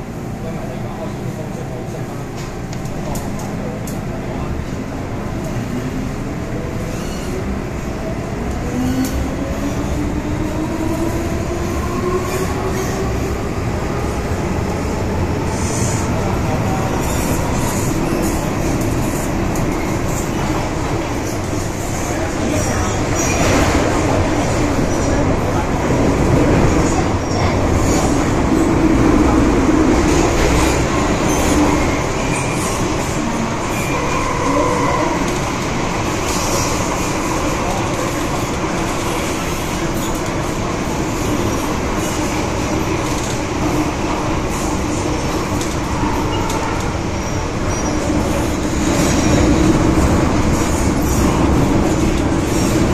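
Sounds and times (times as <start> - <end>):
train wheel and track rumble: 0.0 - 52.9.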